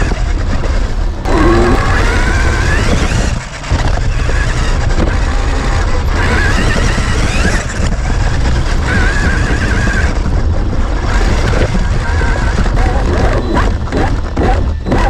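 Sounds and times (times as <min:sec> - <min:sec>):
electric motor whining: 0:00.0 - 0:15.0
heavy steady rumble: 0:00.0 - 0:15.0.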